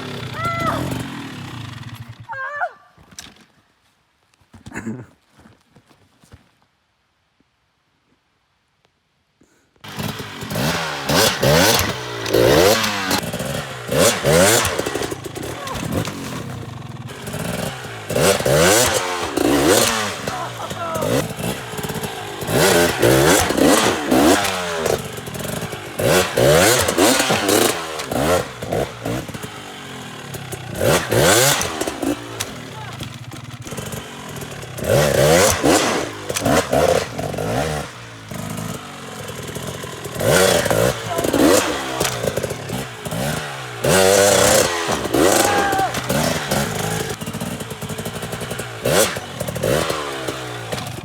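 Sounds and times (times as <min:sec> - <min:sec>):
dirt bike engine revving: 0:00.0 - 0:02.3, 0:09.8 - 0:51.0.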